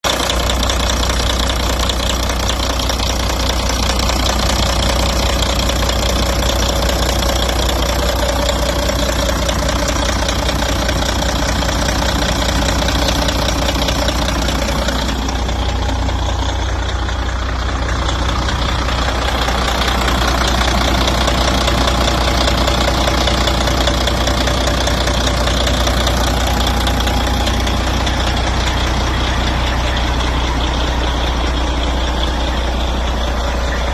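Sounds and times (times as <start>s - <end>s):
truck engine idling: 0.0s - 33.9s.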